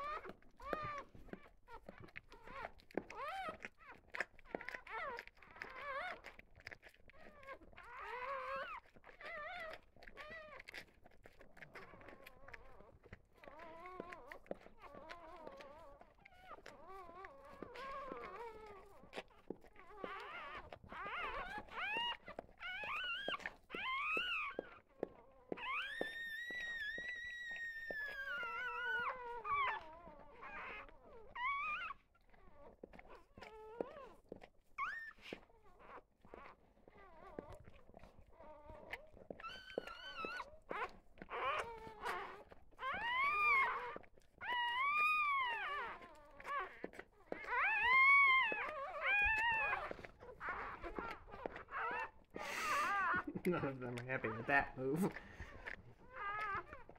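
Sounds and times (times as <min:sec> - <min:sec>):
puppies squeaking and whining: 0:00.0 - 0:56.9.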